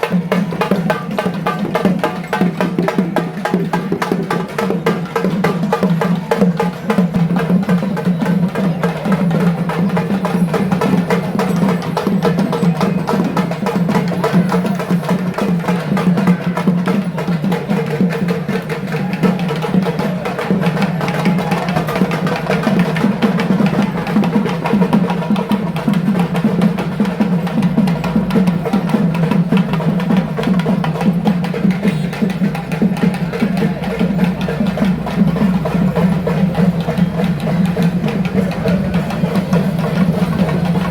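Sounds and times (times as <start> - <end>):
fast ritual drumming: 0.0 - 40.9
sharp clacking percussion: 0.0 - 40.9.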